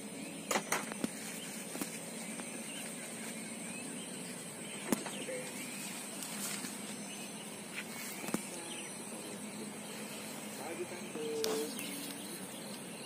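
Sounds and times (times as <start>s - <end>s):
birds chirping: 0.0s - 13.0s
steady high-pitched whine: 0.0s - 13.0s.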